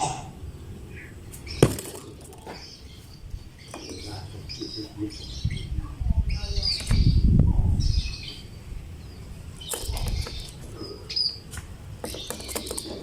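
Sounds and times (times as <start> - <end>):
lovebird chirping: 0.0 - 13.0.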